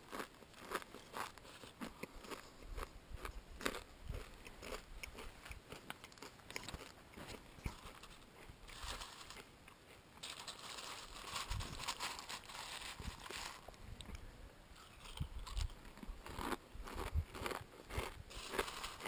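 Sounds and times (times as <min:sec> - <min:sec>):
crunching and chewing cereal: 0:00.0 - 0:13.8, 0:14.8 - 0:19.0.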